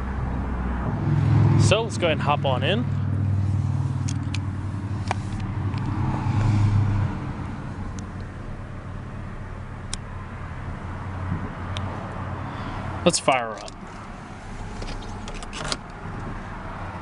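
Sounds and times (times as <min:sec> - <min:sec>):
car engine idling: 0:01.6 - 0:17.0.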